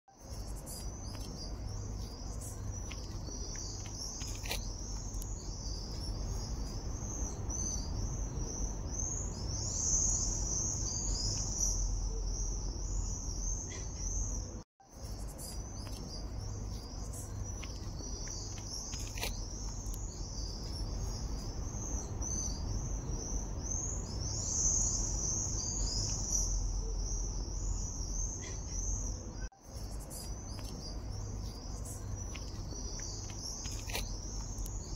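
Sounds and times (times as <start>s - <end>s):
high-pitched chirping chorus: 0.1s - 34.9s.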